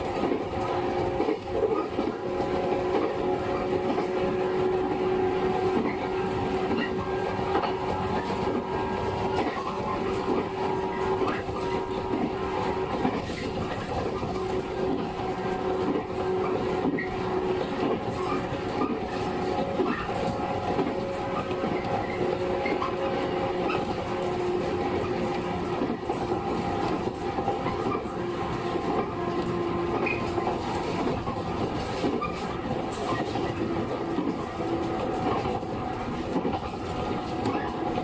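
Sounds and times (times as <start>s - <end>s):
rolling wheel noise: 0.0s - 38.0s
train motor hum: 0.0s - 38.0s.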